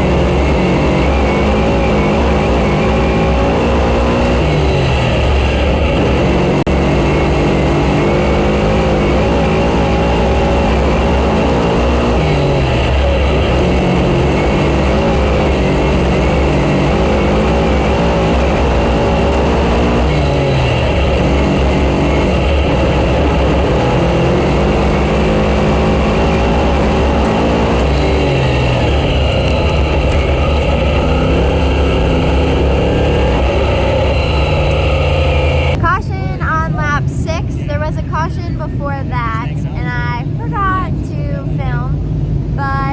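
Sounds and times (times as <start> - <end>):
race car engine running hard: 0.0 - 42.9.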